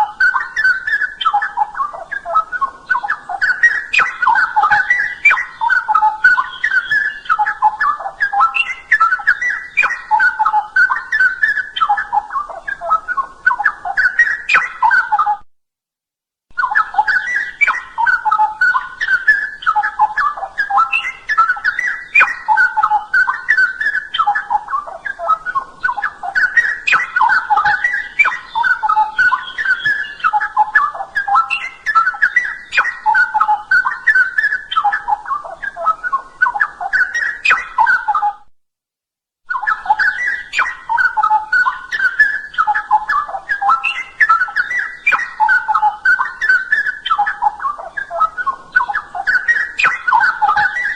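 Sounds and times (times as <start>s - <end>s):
bird singing warbled song: 0.0s - 15.4s, 16.5s - 38.5s, 39.5s - 50.9s.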